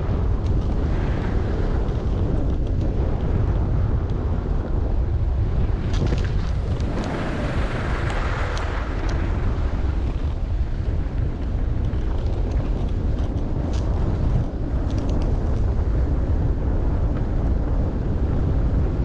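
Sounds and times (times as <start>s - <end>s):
skis scraping over snow: 0.0s - 4.3s, 5.4s - 19.0s
wind buffeting microphone: 0.0s - 19.0s.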